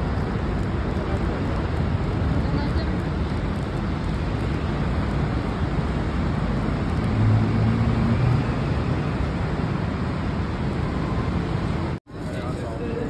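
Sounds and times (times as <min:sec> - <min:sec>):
city street traffic: 0:00.0 - 0:13.0
low engine hum: 0:00.0 - 0:13.0.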